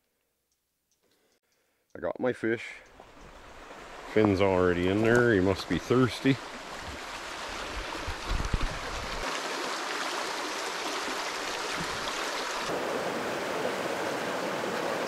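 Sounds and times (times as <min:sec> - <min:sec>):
creek running over stones: 0:02.9 - 0:15.0.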